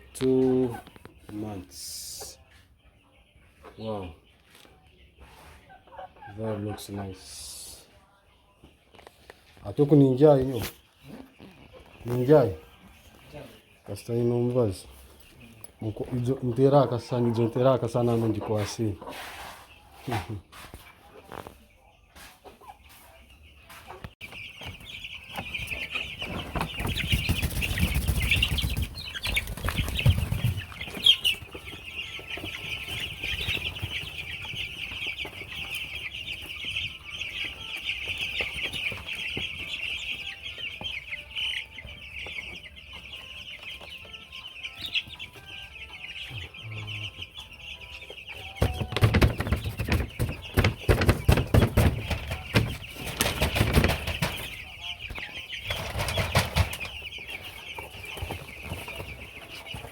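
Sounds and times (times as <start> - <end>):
chickens cheeping and clucking: 0.0 - 59.9.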